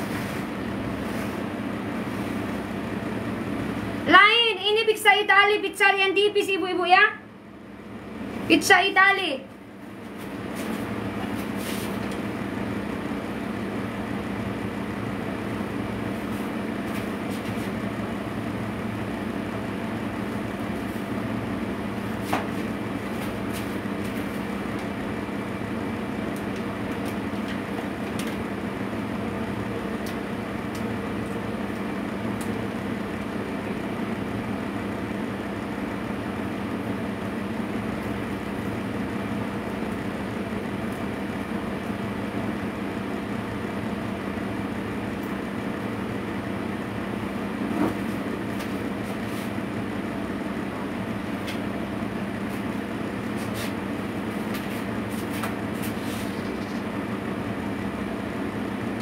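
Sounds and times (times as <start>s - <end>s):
kitchen equipment humming: 0.0s - 59.0s.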